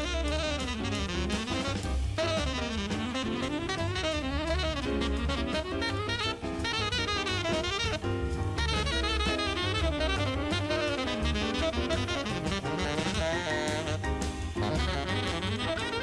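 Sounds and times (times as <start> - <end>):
bass: 0.0 - 16.0
drum kit: 0.0 - 16.0
jazz saxophone playing runs: 0.0 - 16.0.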